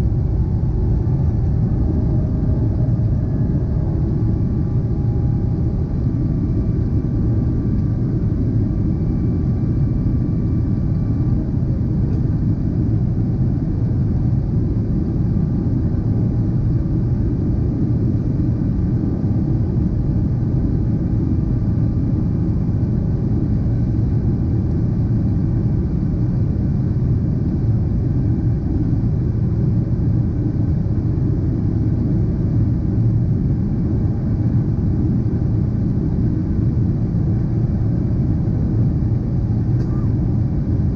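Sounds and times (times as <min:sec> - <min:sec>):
jet engines rumbling: 0:00.0 - 0:26.5, 0:31.0 - 0:40.9
faint engine whine: 0:00.0 - 0:40.9.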